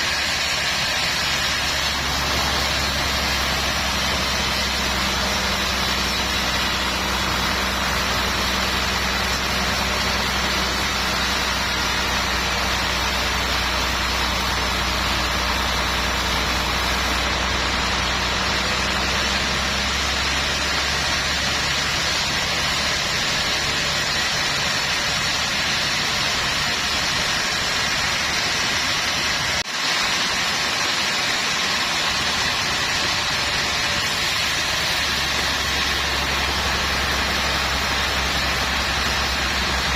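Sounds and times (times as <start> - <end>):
low engine hum: 0.0 - 39.9
sawmill machinery running: 0.0 - 39.9.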